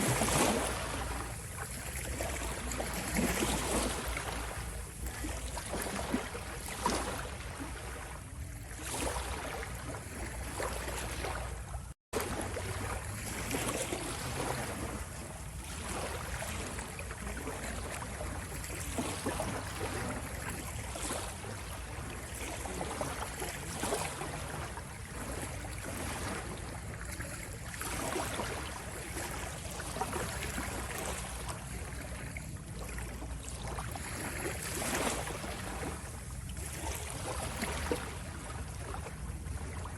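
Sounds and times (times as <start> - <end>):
sea waves washing and lapping: 0.0 - 39.9.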